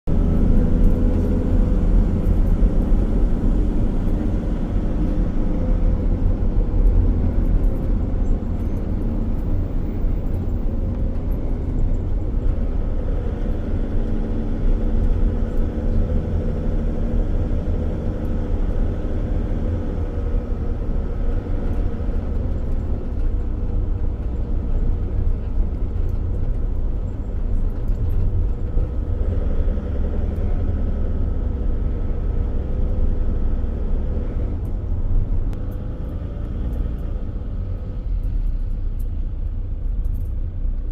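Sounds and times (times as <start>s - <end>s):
motor vehicle engine rumbling: 0.0s - 40.9s.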